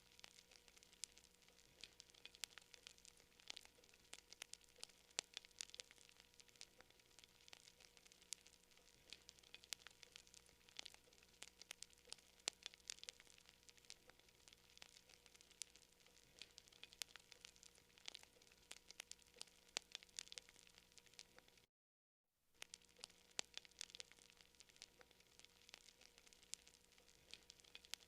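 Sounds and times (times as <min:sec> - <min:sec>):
campfire crackling and popping: 0:00.0 - 0:21.7, 0:22.6 - 0:28.0.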